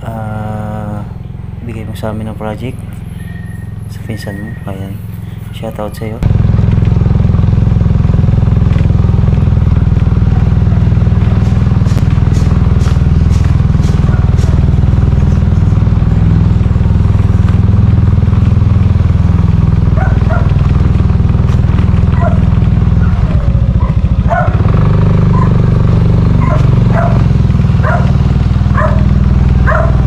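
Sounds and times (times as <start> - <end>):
small motorcycle engine running: 0.0 - 30.0.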